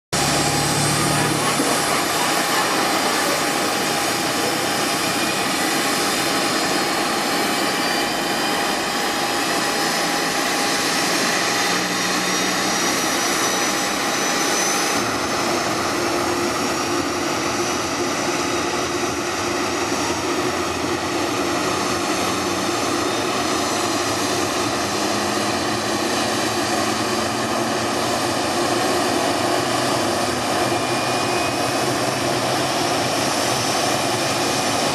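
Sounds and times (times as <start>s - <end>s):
jet engine whine spooling up: 0.2s - 34.9s.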